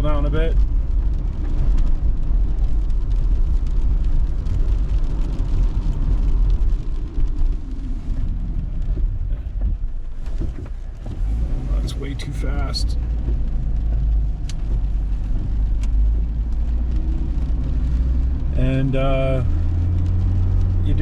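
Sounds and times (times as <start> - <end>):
road and engine rumble in car: 0.0 - 21.0.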